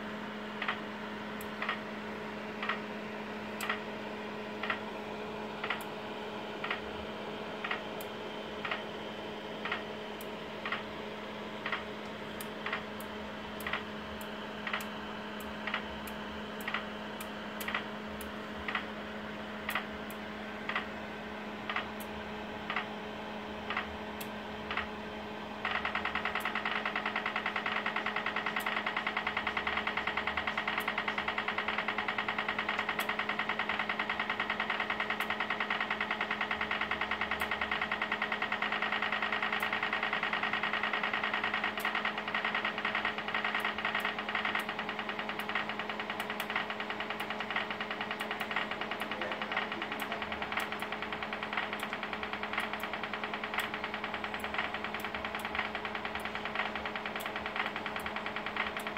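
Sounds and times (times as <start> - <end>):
steady electrical hum: 0.0 - 58.9.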